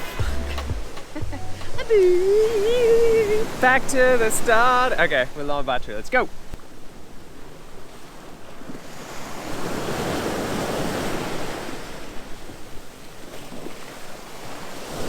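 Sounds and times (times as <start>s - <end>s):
wind buffeting microphone: 0.0s - 12.9s
sea waves washing: 0.0s - 15.0s.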